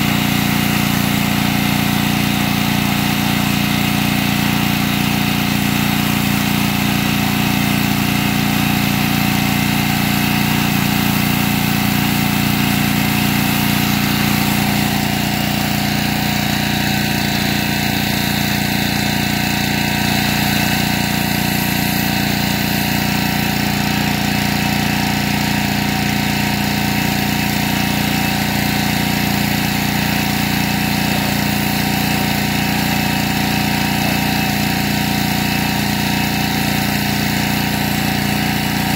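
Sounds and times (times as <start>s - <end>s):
petrol pressure washer running: 0.0s - 38.9s.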